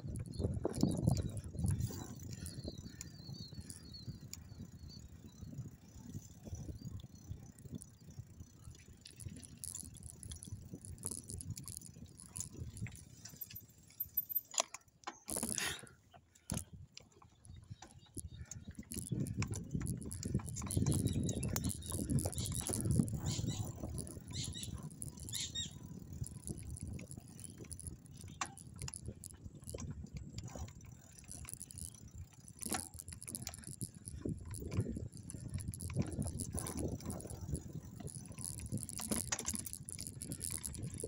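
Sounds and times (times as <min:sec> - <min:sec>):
bicycle frame rattling: 0:00.0 - 0:41.0.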